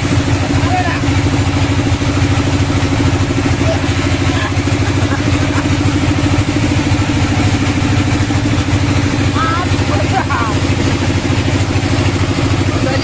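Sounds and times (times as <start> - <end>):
engine idling with pulsing drone: 0.0 - 13.0.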